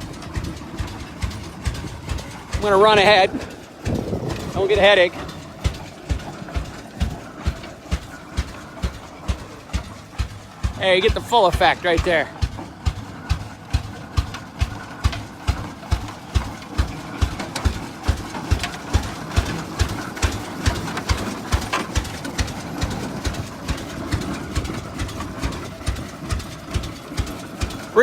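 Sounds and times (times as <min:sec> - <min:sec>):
tractor engine slow exhaust beats: 0:00.0 - 0:28.0.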